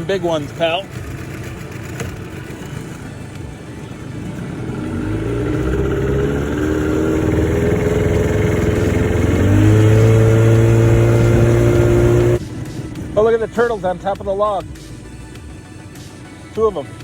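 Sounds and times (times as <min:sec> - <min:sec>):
outboard motor speeding up: 0:00.0 - 0:17.0.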